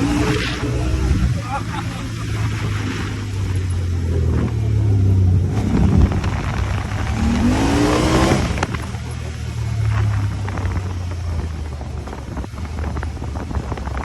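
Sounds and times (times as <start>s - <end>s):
engine running and revving: 0.0s - 14.0s.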